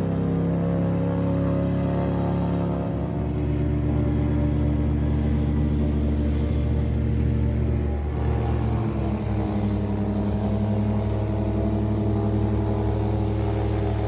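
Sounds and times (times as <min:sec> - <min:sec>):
airboat engine droning: 0:00.0 - 0:14.0.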